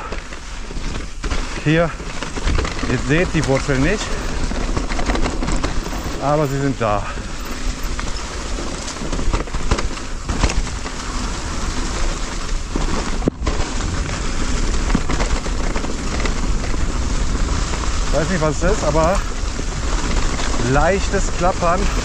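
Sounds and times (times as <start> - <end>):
bike tyre rushing over trail: 0.0 - 22.0
light rattle from bike: 0.0 - 22.0.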